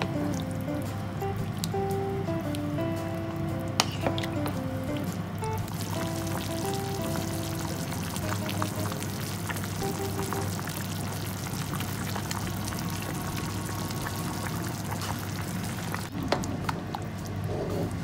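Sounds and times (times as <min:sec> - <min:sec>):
soft background music: 0:00.0 - 0:18.0
soup bubbling at a simmer: 0:00.0 - 0:18.0.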